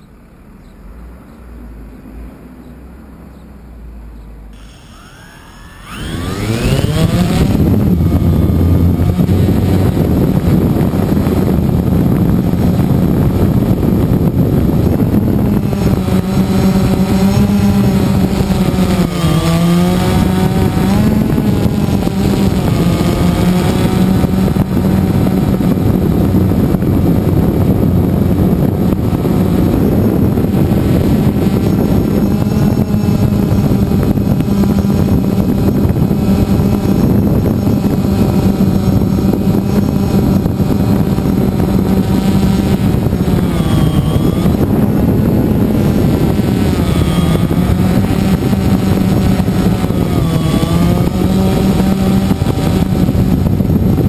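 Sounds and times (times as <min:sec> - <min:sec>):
drone propellers buzzing: 0:04.5 - 0:54.0.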